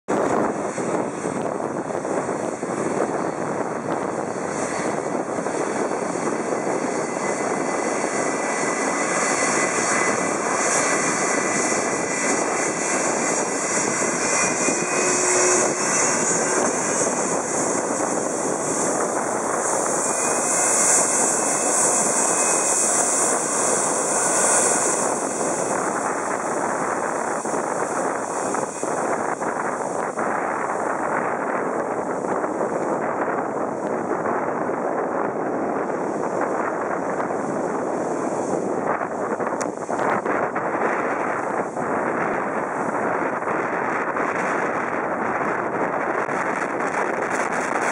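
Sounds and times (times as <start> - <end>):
jet engines running with whine: 0.1 - 47.9.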